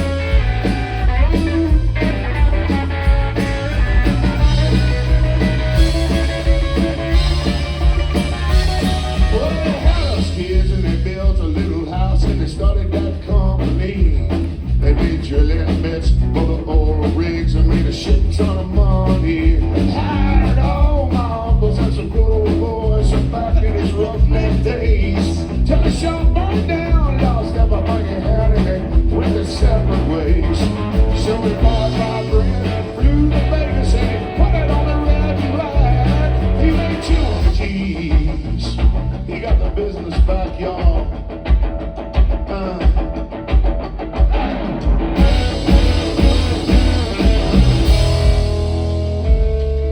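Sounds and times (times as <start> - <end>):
electric guitar: 0.0 - 49.9
live rock band playing: 0.0 - 49.9.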